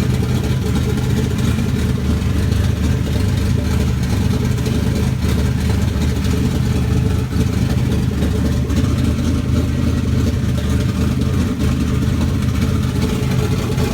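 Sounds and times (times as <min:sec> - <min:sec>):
engine idling roughly: 0:00.0 - 0:13.9.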